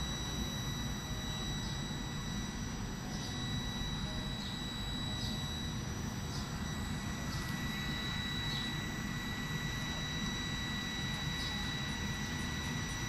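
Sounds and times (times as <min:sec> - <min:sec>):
faint high chirps: 0:00.0 - 0:13.0
high-pitched whine: 0:00.0 - 0:13.0.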